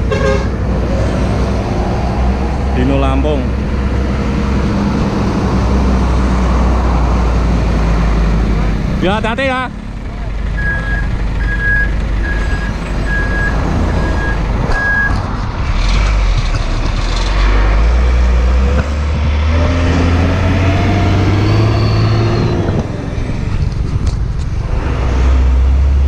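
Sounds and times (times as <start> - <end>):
heavy truck engine pulling away: 0.5 - 26.0.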